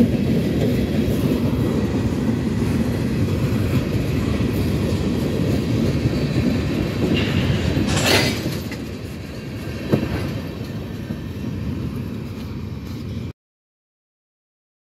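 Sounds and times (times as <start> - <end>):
train wheels rumbling on track: 0.0 - 13.3.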